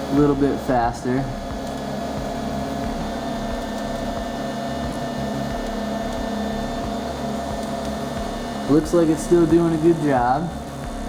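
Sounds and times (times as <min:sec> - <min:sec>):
low flickering hum: 0:00.0 - 0:11.0
stepper motors whining: 0:00.0 - 0:11.0.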